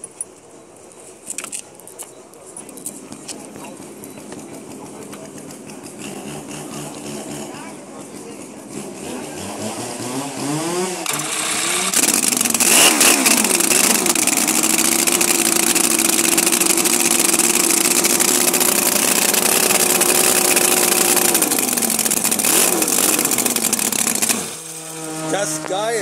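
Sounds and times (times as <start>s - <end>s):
chainsaw engine starting and running: 3.4s - 26.0s.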